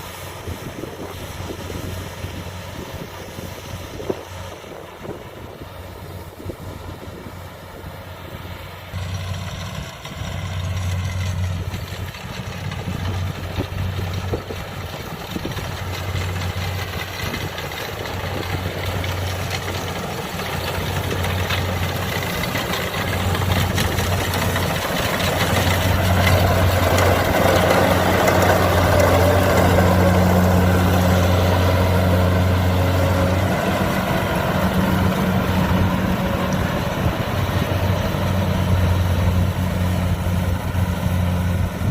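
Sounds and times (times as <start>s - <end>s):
combine harvester engine hum: 0.0s - 41.9s.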